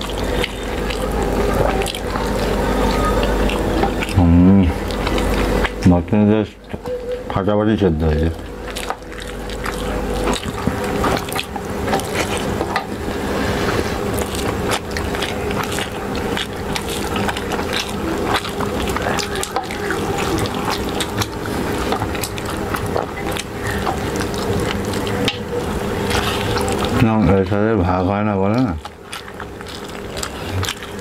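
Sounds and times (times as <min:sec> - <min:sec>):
hands squelching food: 0:00.0 - 0:31.0
mouths chewing: 0:00.0 - 0:31.0.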